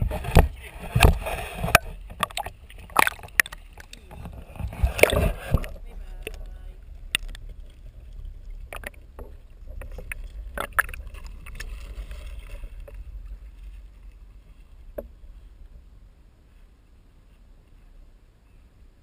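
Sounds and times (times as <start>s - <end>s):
water splashing and sloshing: 0.0s - 18.0s
low rumble: 0.0s - 19.0s.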